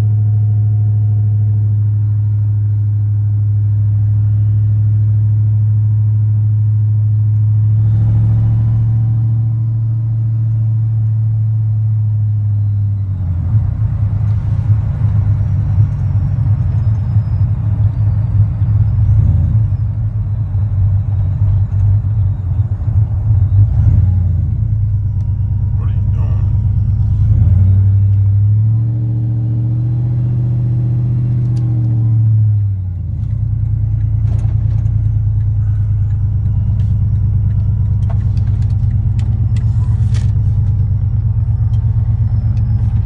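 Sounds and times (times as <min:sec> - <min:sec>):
truck engine droning: 0:00.0 - 0:43.0.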